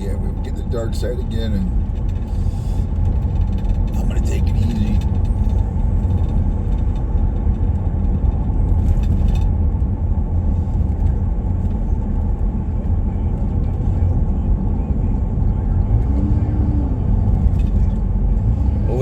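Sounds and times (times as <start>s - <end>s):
car engine rumble: 0.0s - 19.0s
tyres on snowy icy road: 0.0s - 19.0s.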